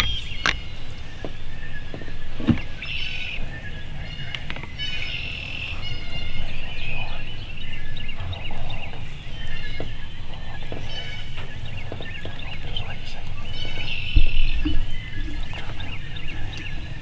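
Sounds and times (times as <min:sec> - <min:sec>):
steady low rumble: 0:00.0 - 0:17.0
turkeys chattering calls: 0:00.0 - 0:17.0.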